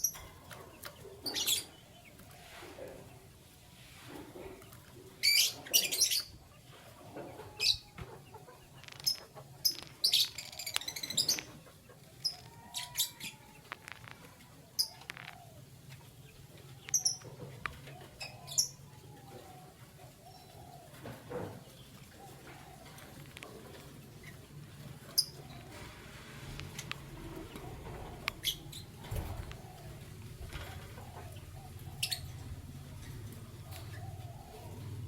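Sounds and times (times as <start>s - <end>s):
canaries chirping: 0.0s - 35.0s.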